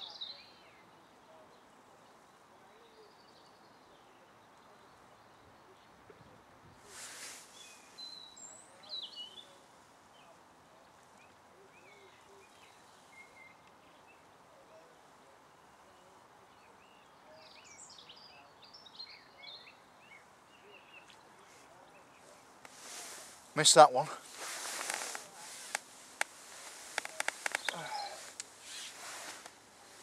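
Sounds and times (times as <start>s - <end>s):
small birds chirping and singing: 0.0s - 30.0s.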